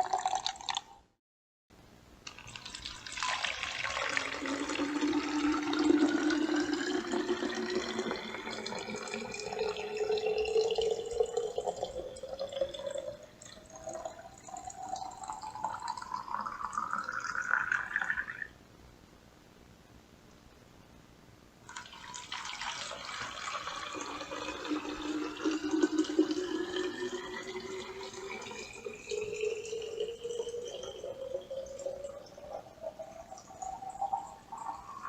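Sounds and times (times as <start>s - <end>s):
water poured into a bottle: 0.0s - 1.0s, 2.3s - 18.5s, 21.7s - 35.0s.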